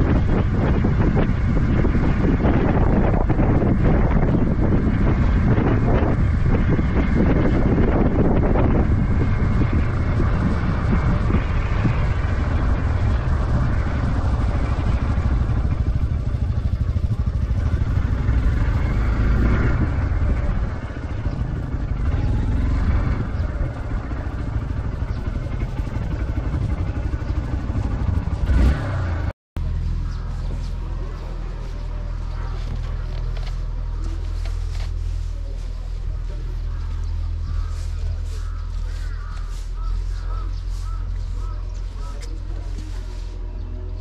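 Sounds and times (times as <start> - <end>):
motorcycle engine running: 0.0 - 44.0
wind rushing over microphone: 0.0 - 44.0.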